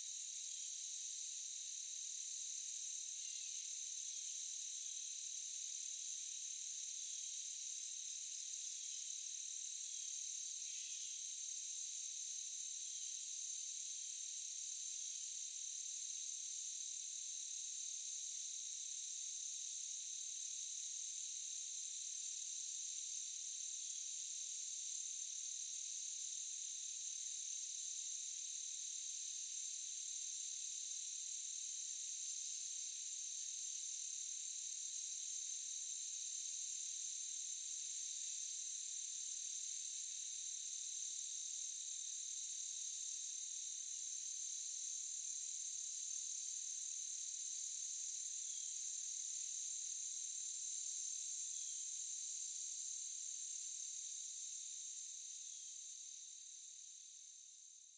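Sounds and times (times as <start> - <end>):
crickets chirping: 0.0 - 16.1, 19.9 - 57.9
high-pitched insect trill: 0.0 - 57.9.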